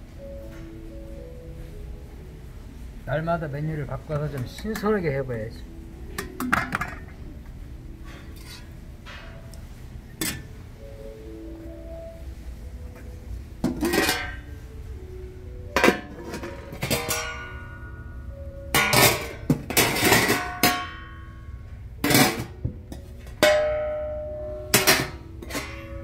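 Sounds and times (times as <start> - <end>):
soft plucked guitar music: 4.2 - 26.0.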